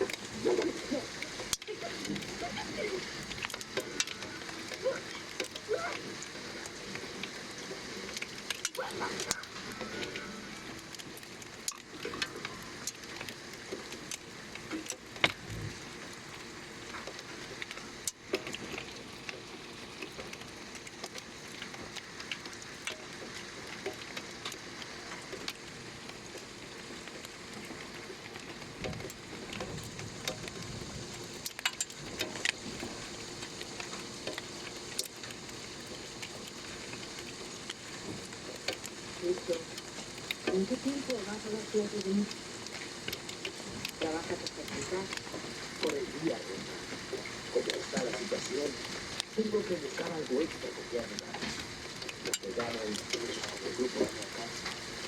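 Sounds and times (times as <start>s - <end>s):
heavy rain: 0.0s - 39.7s, 40.4s - 55.0s
hail striking hard surfaces: 0.0s - 55.0s.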